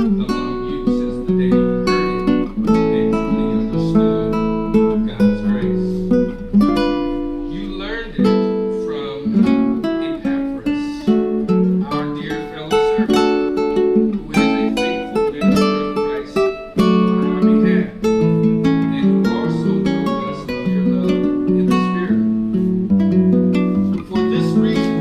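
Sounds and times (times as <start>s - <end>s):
strummed guitar chords: 0.0s - 25.0s.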